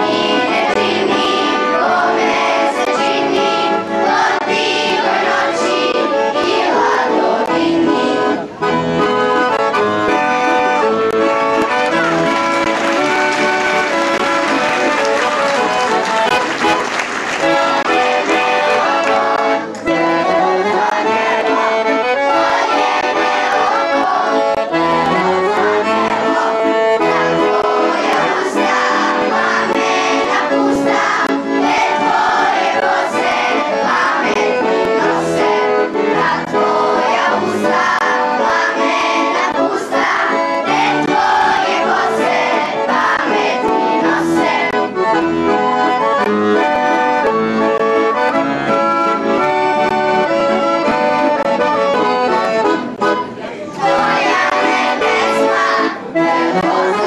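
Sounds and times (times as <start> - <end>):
accordion folk music: 0.0 - 57.0.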